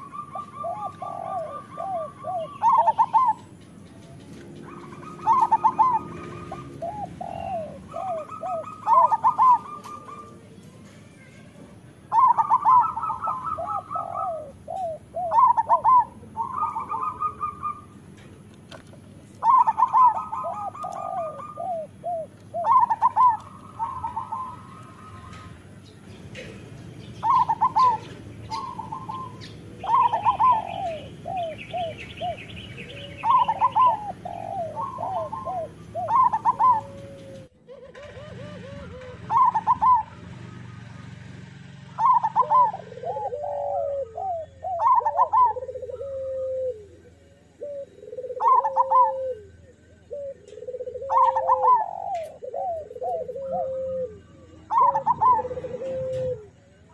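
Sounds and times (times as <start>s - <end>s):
dove cooing: 0.0s - 11.2s, 11.9s - 56.9s.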